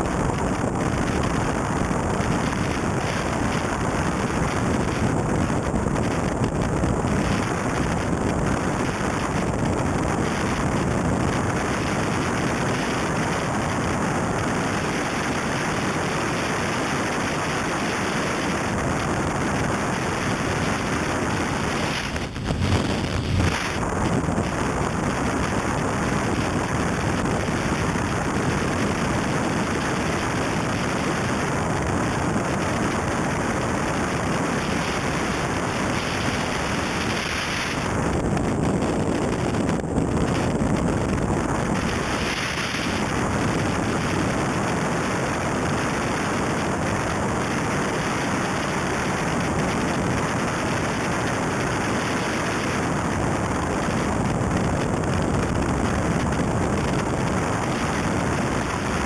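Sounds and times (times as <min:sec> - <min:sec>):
wind rushing: 0:00.0 - 0:48.4
gravel noise under tyres: 0:00.0 - 0:59.0.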